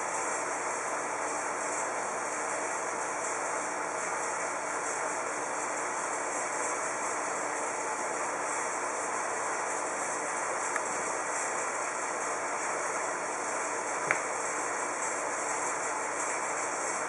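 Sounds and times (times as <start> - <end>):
aquarium filter water hiss: 0.0 - 17.0.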